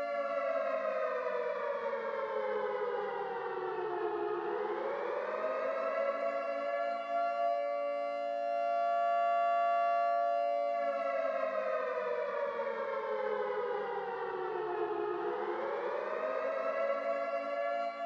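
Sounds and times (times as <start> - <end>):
civil defense siren wailing: 0.0 - 18.0.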